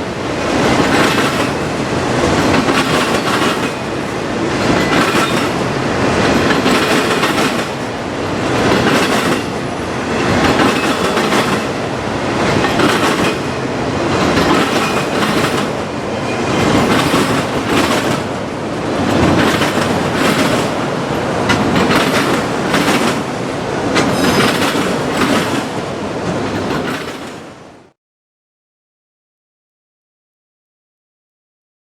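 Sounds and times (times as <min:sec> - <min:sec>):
train wheels clattering: 0:00.0 - 0:27.5.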